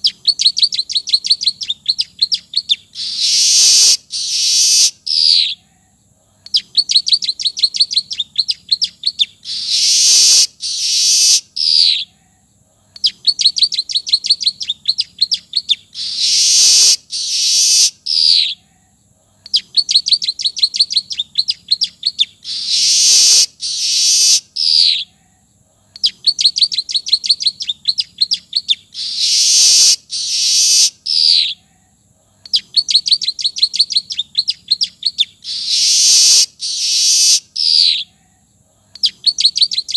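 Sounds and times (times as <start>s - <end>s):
high ticking bird notes: 0.0s - 5.6s, 6.5s - 12.1s, 12.9s - 18.6s, 19.5s - 25.1s, 26.0s - 31.6s, 32.5s - 38.1s
harsh buzzy bird calls: 0.0s - 18.8s, 19.5s - 25.2s, 26.0s - 31.8s, 32.5s - 38.4s
bird song: 0.0s - 39.9s.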